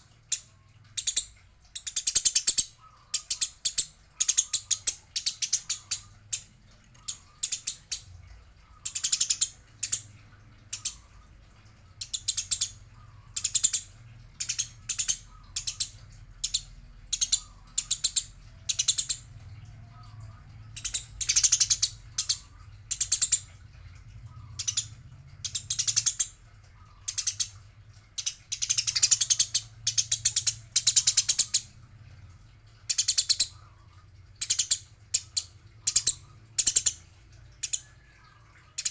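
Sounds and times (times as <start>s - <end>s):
sparrows chattering: 0.0s - 31.9s, 32.6s - 38.9s.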